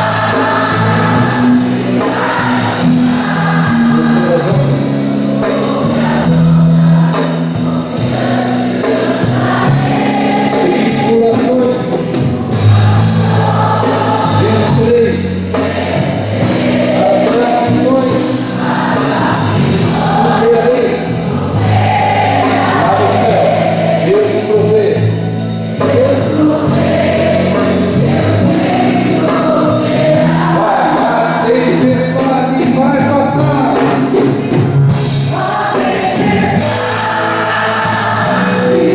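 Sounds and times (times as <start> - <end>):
group singing worship song: 0.0 - 38.9
instrumental accompaniment with beat: 0.0 - 38.9.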